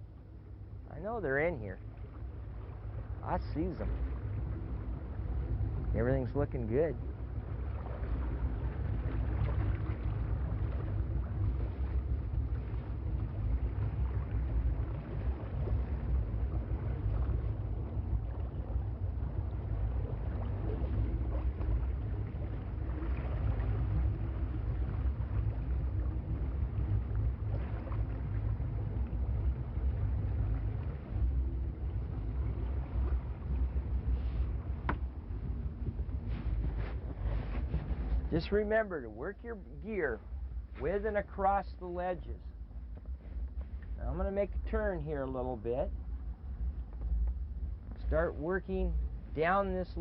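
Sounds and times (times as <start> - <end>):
boat engine rumbling: 0.0 - 50.0.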